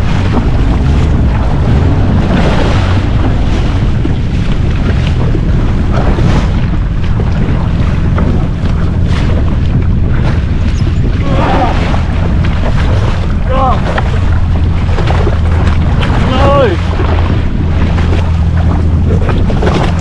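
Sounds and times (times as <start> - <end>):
jet ski engine rumble: 0.0 - 20.0
water splashing against hull: 0.0 - 20.0
wind buffeting microphone: 0.0 - 20.0.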